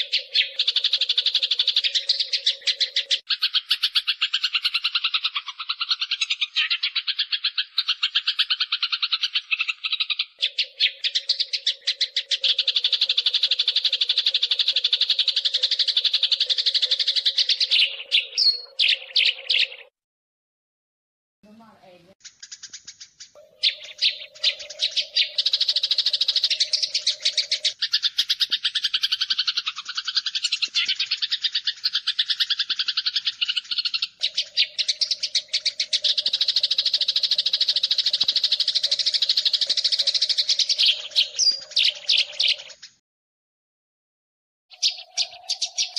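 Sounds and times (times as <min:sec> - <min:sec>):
sparrows chirping sharply: 0:00.0 - 0:19.9, 0:22.2 - 0:43.0, 0:44.7 - 0:45.9.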